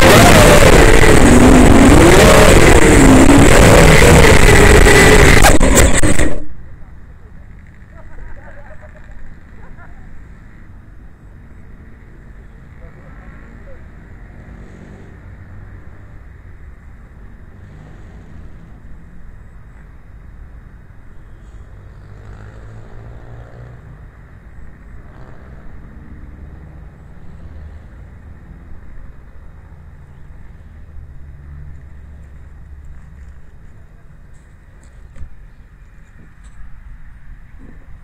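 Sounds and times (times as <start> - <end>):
low outdoor rumble: 0.0 - 38.0.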